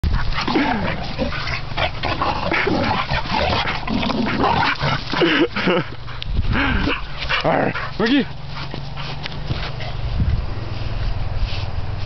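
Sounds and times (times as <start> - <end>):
dogs play-fighting: 0.0 - 10.1.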